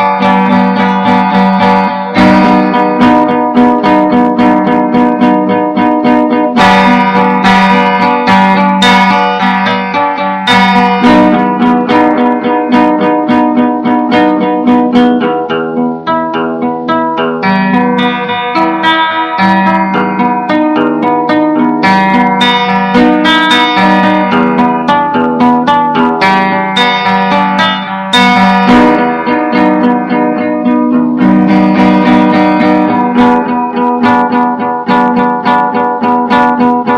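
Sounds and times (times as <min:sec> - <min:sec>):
strummed string instrument chords: 0:00.0 - 0:36.9.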